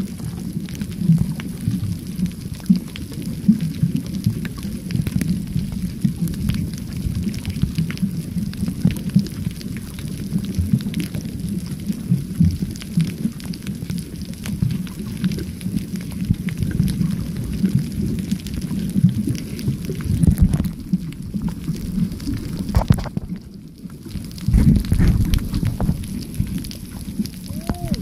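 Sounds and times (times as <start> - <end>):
underwater rumble of moving water: 0.0 - 28.0
faint crackling clicks: 0.1 - 28.0.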